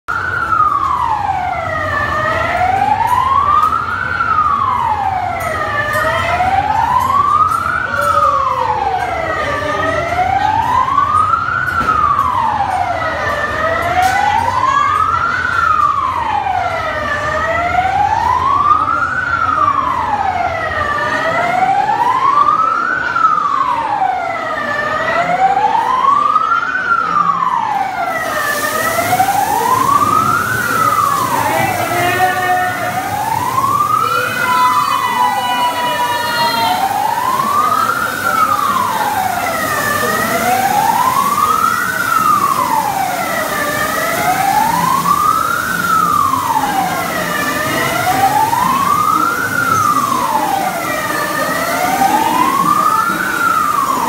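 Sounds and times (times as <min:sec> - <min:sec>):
fire engine siren wailing: 0:00.0 - 0:54.0
water spraying from hoses: 0:00.1 - 0:19.0, 0:27.4 - 0:54.0.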